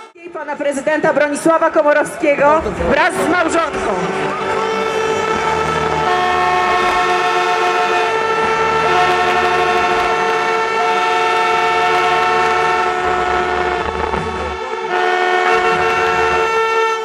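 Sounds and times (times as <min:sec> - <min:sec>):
crowd noise: 0:00.0 - 0:16.7
spectators blowing horns: 0:02.5 - 0:17.0.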